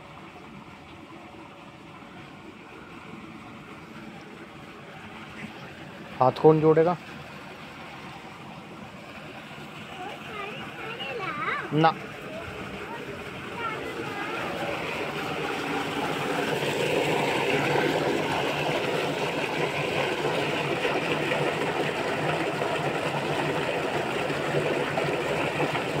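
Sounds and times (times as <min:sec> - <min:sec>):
low steady hum: 0:00.0 - 0:26.0
water gushing into tank: 0:00.0 - 0:26.0.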